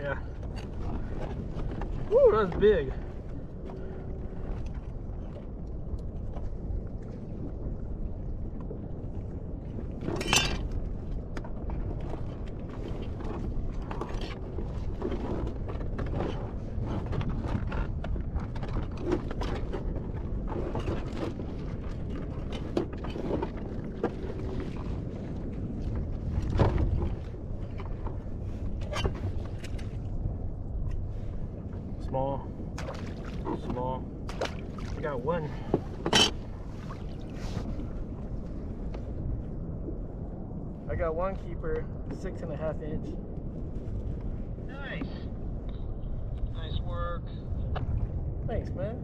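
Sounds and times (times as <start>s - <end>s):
water noise: 0.0s - 49.0s
wind: 0.0s - 49.0s.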